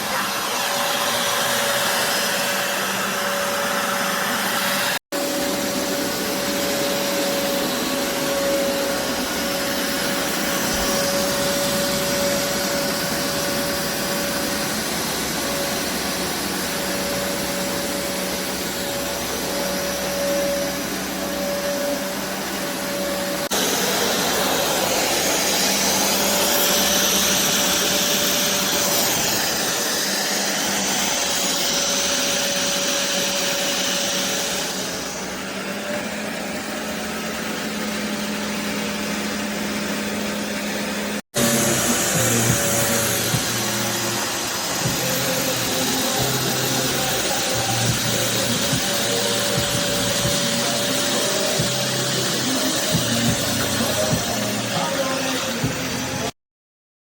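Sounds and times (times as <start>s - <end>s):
carpet cleaner suction motor whining: 0.0s - 56.4s.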